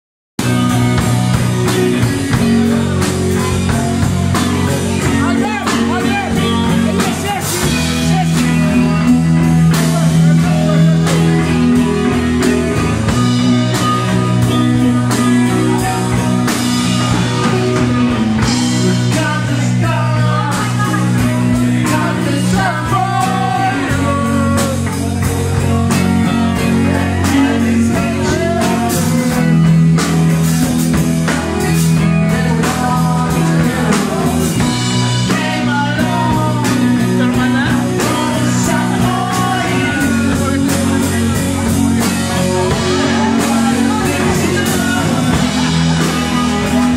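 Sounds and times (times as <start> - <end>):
drum kit with cymbals: 0.4 - 46.9
electric bass: 0.4 - 46.9
pitch-bending lead melody: 0.4 - 46.9.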